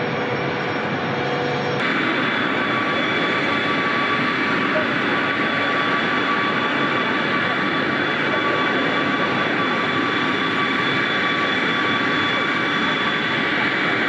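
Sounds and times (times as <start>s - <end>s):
high turbine whine: 0.0s - 14.0s
jet turbine roaring: 0.0s - 14.0s.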